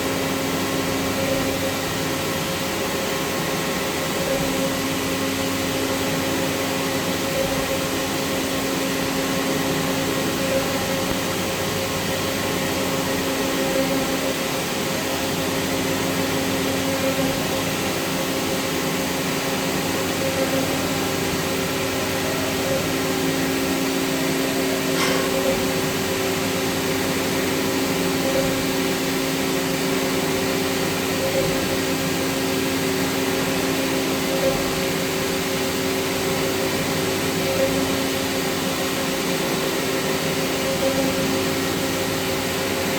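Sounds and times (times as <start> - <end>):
cnc machine humming: 0.0 - 42.9.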